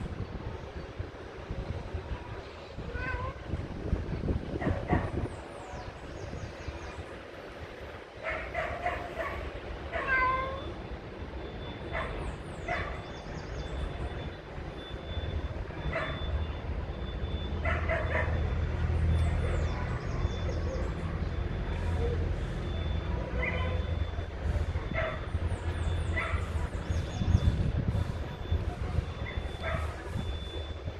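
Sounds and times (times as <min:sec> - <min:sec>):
low engine-like rumble: 0:00.0 - 0:30.9.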